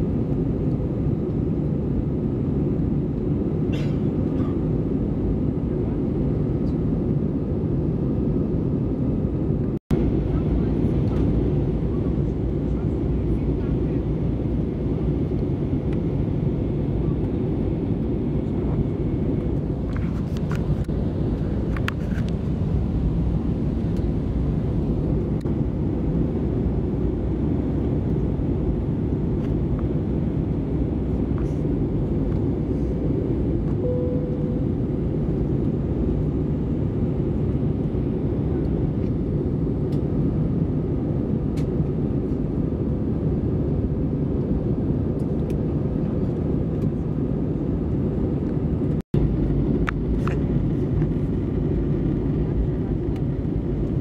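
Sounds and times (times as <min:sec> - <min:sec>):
jet cabin engine drone: 0:00.0 - 0:54.0.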